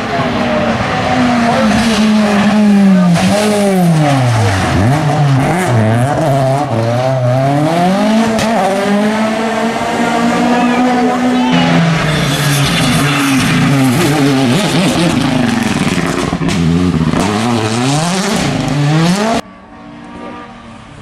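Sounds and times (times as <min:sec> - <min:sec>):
rally car engine revving: 0:00.0 - 0:20.6.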